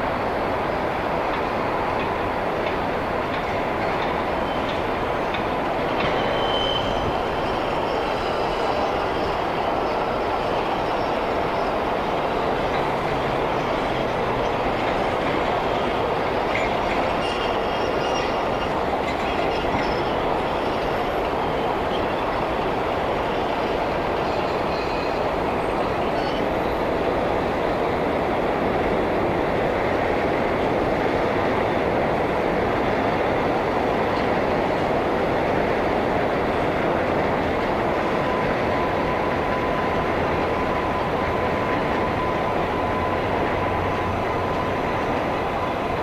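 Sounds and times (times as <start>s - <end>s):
elevated train rumbling: 0.0s - 46.0s
train wheel squeals: 1.1s - 46.0s.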